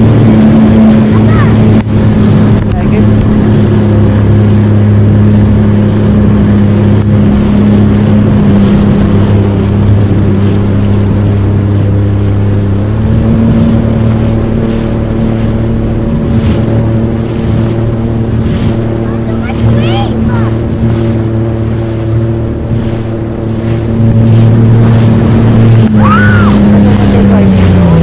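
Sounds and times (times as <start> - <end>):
jet ski engine running: 0.0 - 28.0
water rushing around hull: 0.0 - 28.0.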